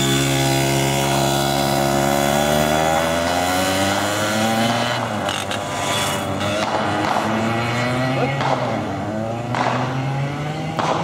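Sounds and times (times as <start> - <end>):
kart engine pulling away: 0.0 - 11.0.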